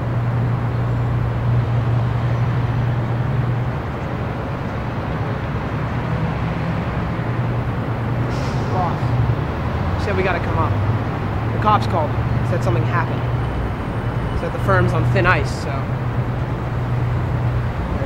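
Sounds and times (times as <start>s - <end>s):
traffic-like rumble with hiss: 0.0s - 18.0s.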